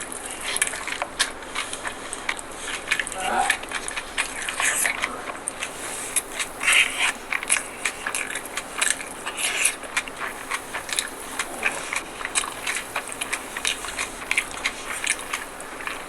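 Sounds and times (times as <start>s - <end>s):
close eating and chewing: 0.0s - 16.0s.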